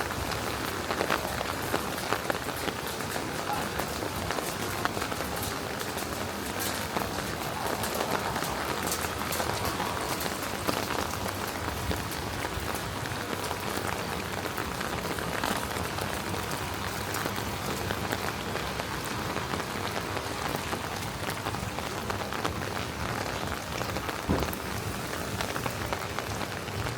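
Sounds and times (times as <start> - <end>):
steady rain with drop ticks: 0.0 - 26.9.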